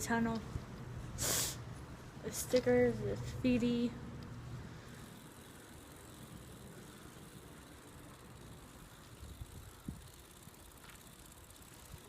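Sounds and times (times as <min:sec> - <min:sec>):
bicycle riding rumble and hiss: 0:00.0 - 0:12.0.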